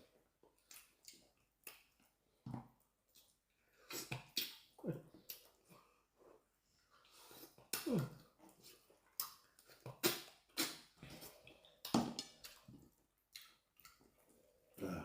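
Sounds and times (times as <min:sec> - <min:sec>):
chewing and mouth sounds: 0:00.1 - 0:14.6.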